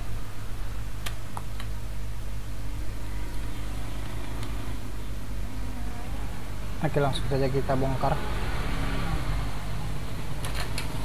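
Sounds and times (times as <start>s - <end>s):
electrical hum: 0.0s - 11.0s
fan noise: 0.0s - 11.0s.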